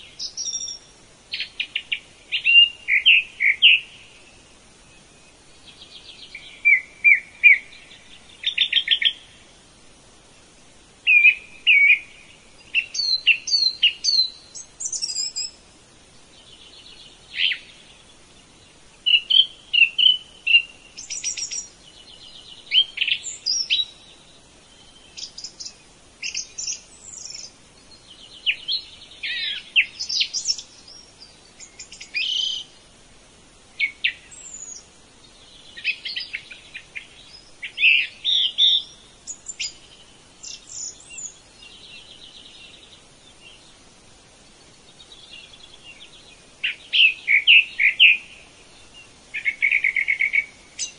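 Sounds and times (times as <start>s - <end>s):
songbirds chirping and singing: 0.0s - 50.9s.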